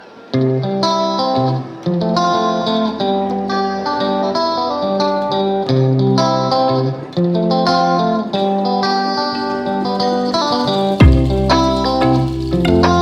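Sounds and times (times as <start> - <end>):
plucked guitar melody: 0.3 - 13.0.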